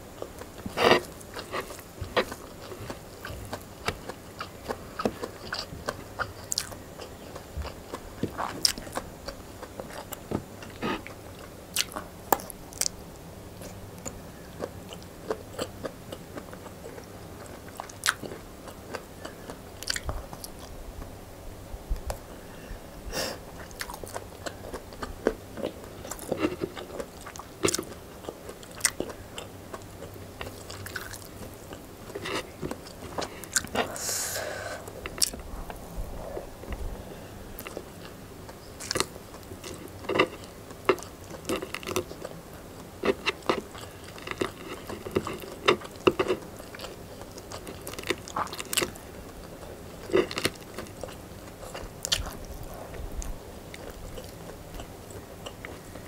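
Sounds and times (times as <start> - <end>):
person chewing food: 0.0 - 13.0, 13.6 - 21.1, 23.4 - 56.0.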